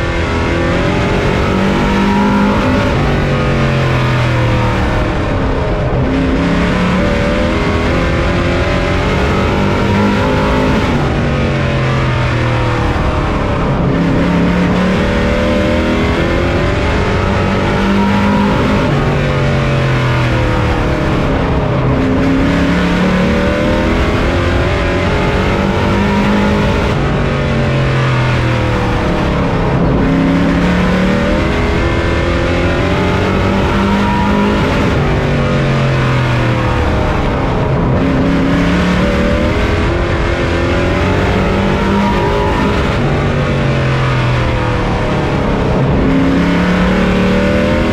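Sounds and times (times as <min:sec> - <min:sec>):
race truck engine: 0:00.0 - 0:47.9.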